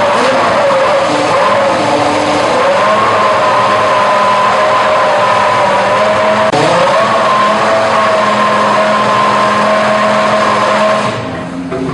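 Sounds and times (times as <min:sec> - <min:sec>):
racing car engine high-pitched: 0:00.0 - 0:11.9.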